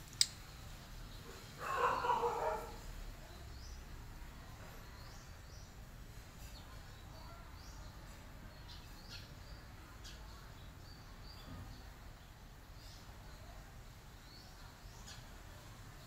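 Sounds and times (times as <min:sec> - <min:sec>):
faint outdoor hiss: 0:00.0 - 0:16.0
small birds chirping: 0:00.0 - 0:16.0.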